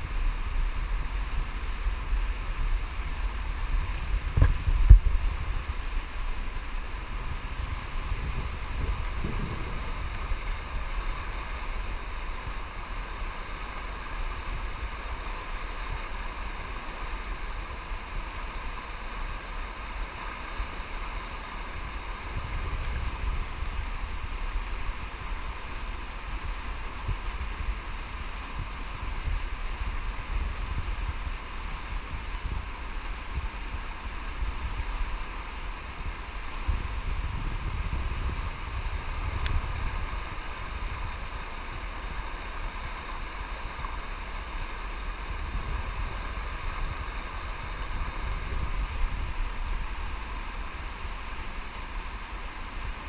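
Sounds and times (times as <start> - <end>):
wind buffeting microphone: 0.0 - 16.6, 20.6 - 53.0
whitewater rushing: 0.0 - 53.0.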